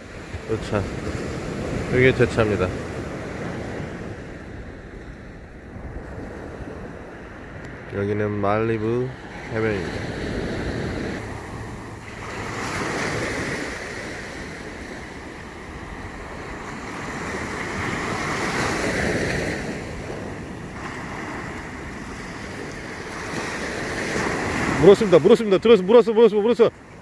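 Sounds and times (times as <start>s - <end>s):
wind on microphone: 0.0s - 24.9s
ocean surf breaking on beach: 0.0s - 27.0s.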